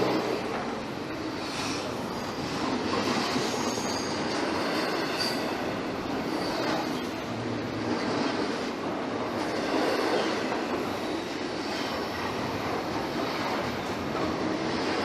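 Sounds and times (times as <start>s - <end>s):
freight train wheels on rail: 0.0s - 15.0s.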